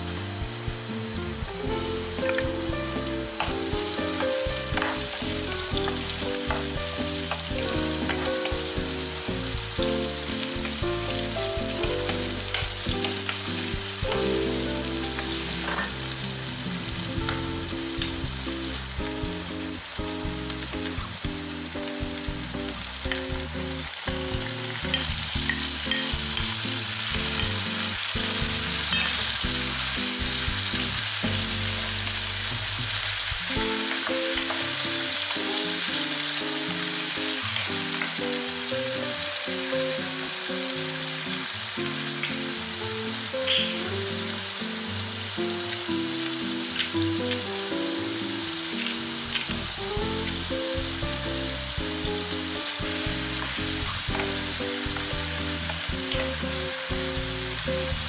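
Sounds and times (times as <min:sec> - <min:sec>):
background music: 0:00.0 - 0:58.0
vegetables sizzling in oil: 0:00.0 - 0:58.0.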